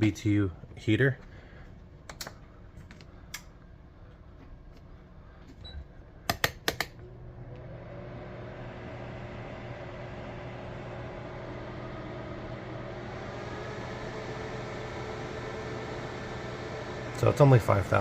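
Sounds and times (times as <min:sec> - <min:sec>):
heater fan humming: 0:00.0 - 0:18.0.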